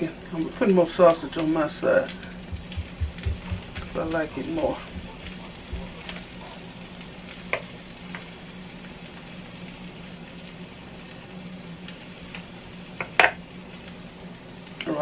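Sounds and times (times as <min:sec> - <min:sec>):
meat sizzling on hot plates: 0:00.0 - 0:15.0
steady low hum: 0:00.0 - 0:15.0.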